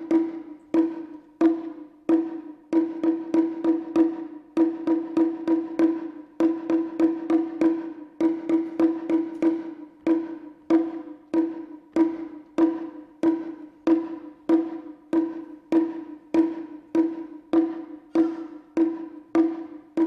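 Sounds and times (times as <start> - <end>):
large drum strokes: 0.0 - 20.0.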